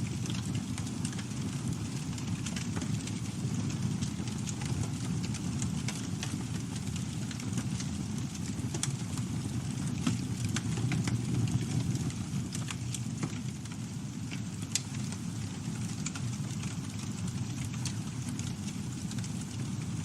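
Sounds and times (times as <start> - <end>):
burning wood crackling and popping: 0.0 - 20.0
campfire flames rumbling: 0.0 - 20.0.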